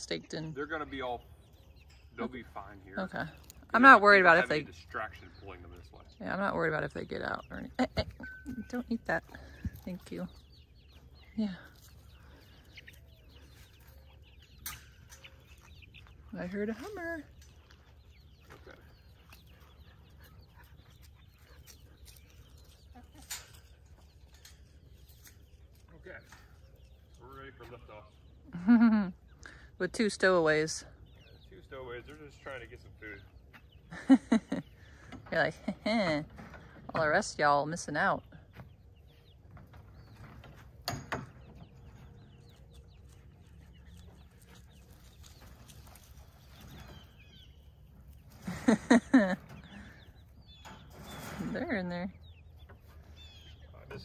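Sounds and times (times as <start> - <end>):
birds chirping: 0.0 - 54.0
chickens clucking: 0.0 - 54.0.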